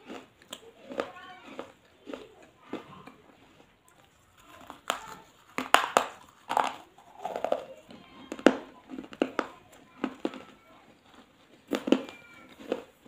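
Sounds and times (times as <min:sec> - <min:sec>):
person crunching crisp snack: 0:00.0 - 0:13.0.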